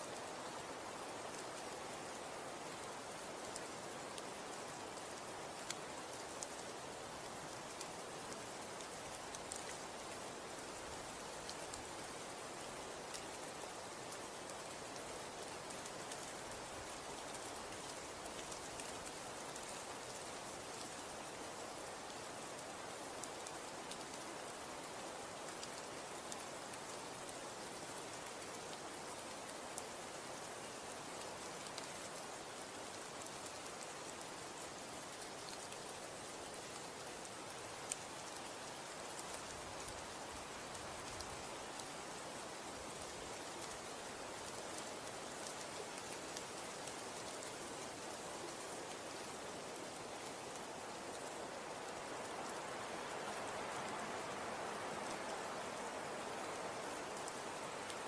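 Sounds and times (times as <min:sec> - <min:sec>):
snow falling soft hiss: 0:00.0 - 0:58.0.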